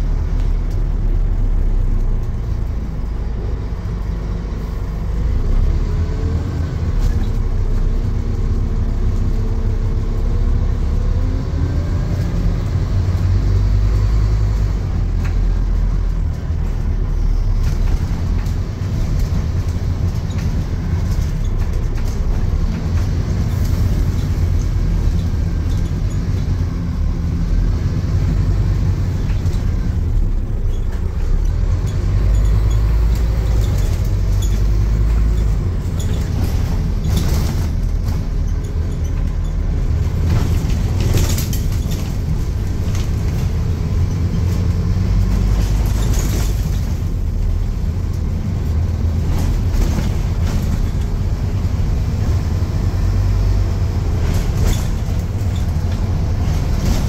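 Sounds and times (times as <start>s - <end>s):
bus body rattles and knocks: 0.0s - 57.0s
bus diesel engine rumble: 0.0s - 57.0s
road noise: 0.0s - 57.0s.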